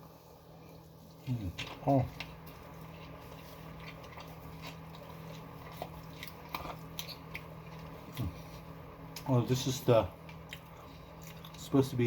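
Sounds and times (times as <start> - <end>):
steady low hum: 0.0 - 12.0
person chewing sandwich: 0.2 - 9.3, 10.2 - 11.8.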